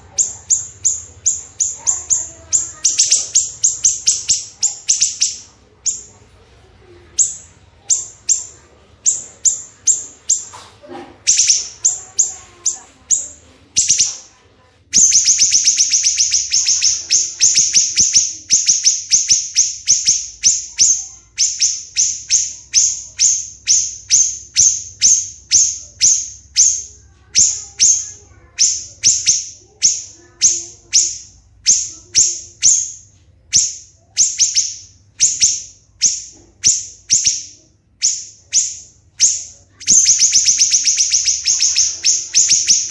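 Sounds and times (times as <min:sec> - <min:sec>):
songbird chirping: 0:00.0 - 0:42.9.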